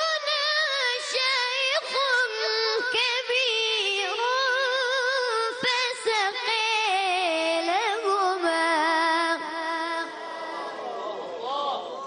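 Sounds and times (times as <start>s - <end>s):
boy reciting in melodic chant: 0.0s - 11.2s.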